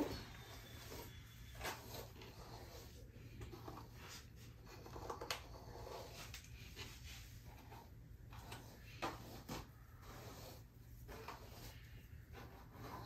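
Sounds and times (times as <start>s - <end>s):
brush strokes through hair: 0.0s - 13.0s.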